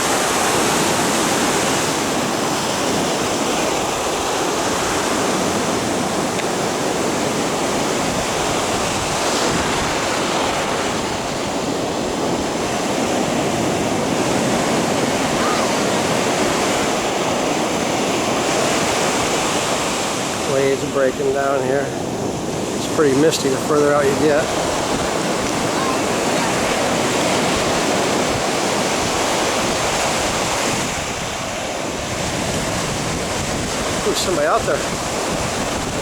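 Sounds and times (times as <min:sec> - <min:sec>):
ocean waves breaking: 0:00.0 - 0:36.0.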